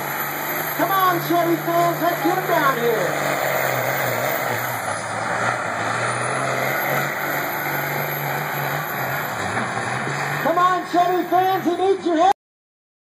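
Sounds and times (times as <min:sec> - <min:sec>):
truck engine droning: 0:00.0 - 0:12.3.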